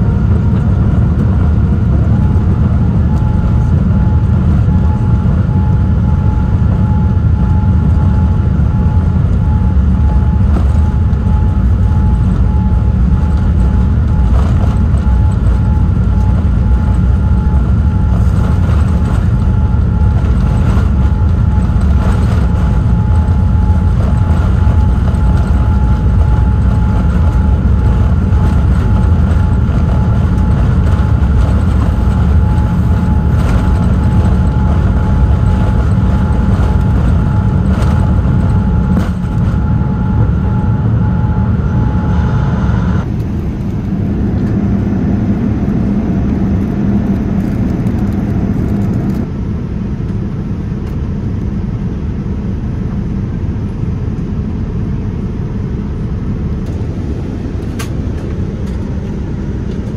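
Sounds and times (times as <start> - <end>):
aircraft engine rumble: 0.0 - 59.9
steady cabin hum: 0.0 - 59.9
steady engine whine: 0.0 - 59.9.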